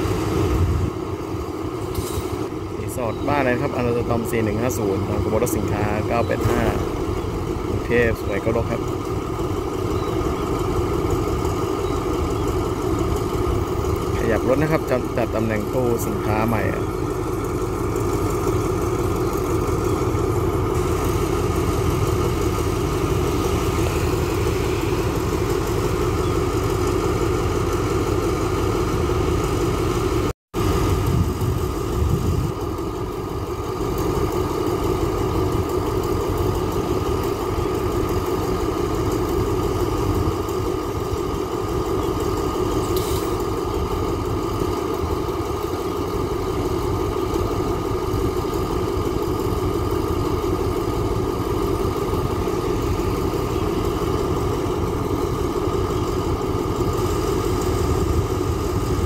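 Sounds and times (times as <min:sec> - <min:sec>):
diesel locomotive engine humming: 0:00.0 - 0:59.0.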